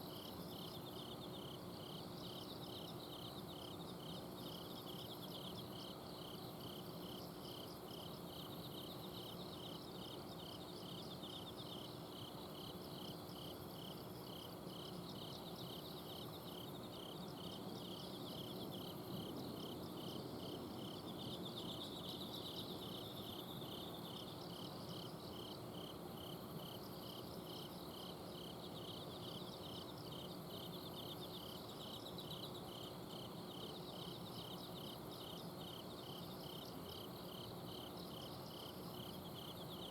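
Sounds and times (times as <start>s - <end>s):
insects trilling: 0.0s - 39.9s
pulsing cricket chirp: 0.0s - 39.9s.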